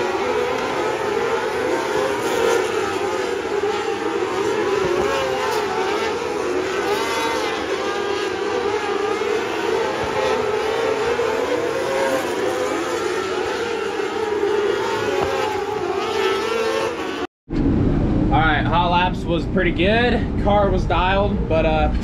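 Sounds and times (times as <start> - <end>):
racing car engines revving: 0.0 - 22.0.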